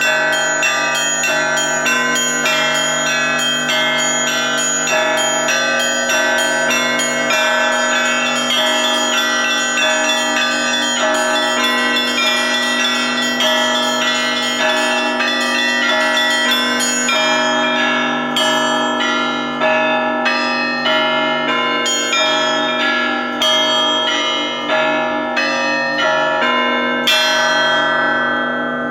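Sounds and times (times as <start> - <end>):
church bells pealing: 0.0 - 28.9.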